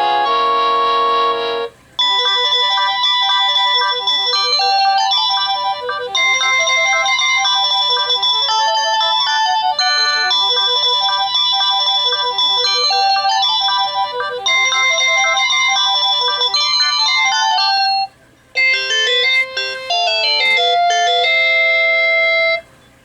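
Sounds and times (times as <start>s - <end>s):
electronic ringtone melody: 0.0s - 22.6s
phone ringtone held chord: 0.0s - 22.6s.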